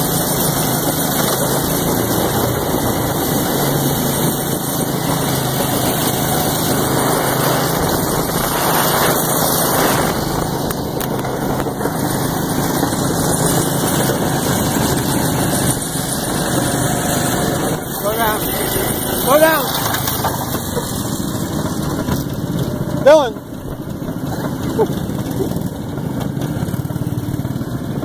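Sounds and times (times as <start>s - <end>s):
go-kart engine droning: 0.0s - 28.0s.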